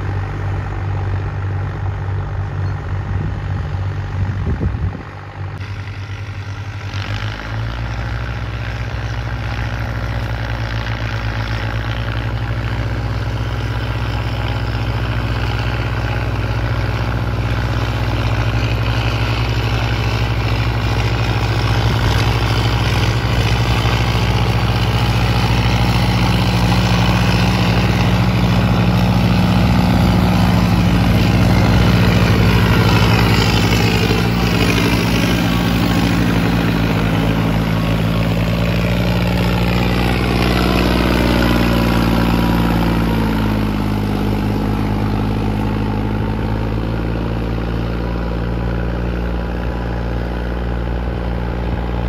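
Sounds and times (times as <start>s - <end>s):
tractor diesel engines under load: 0.0s - 52.0s.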